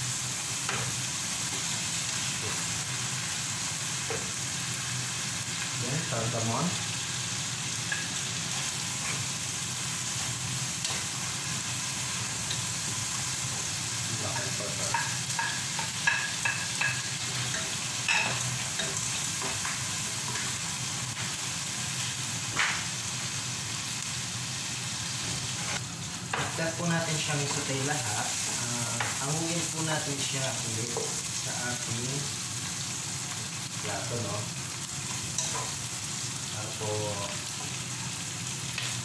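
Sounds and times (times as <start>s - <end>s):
onions sizzling in hot oil: 0.0s - 39.0s.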